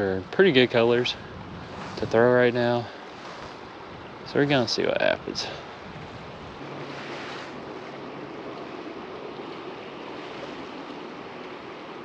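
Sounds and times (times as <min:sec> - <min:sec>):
river water rushing: 0:00.0 - 0:12.0
wind on microphone: 0:00.0 - 0:12.0.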